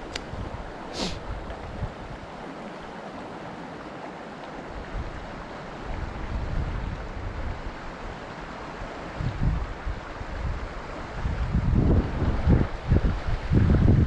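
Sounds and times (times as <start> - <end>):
wind buffeting microphone: 0.0 - 2.4, 4.7 - 14.0
river water rushing over stones: 0.0 - 14.0.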